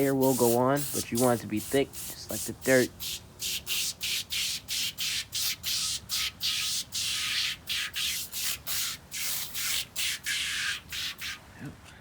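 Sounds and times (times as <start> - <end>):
aerosol can spraying: 0.0 - 11.4.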